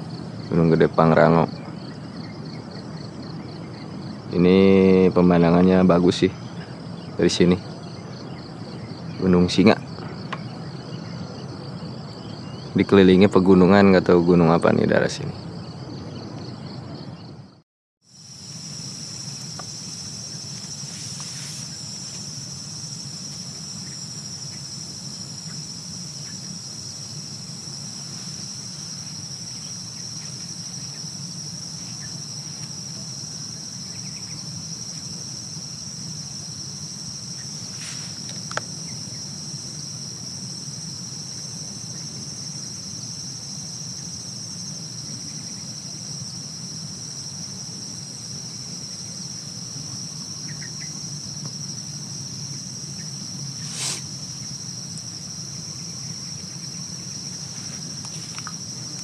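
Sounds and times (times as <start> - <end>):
cricket chorus trilling: 0.0 - 59.0.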